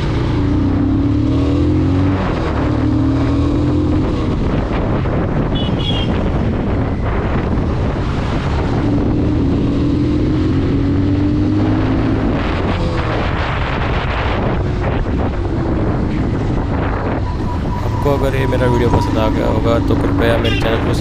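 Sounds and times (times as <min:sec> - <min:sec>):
motorcycle engine rumble: 0:00.0 - 0:21.0
wind buffeting microphone: 0:00.0 - 0:21.0.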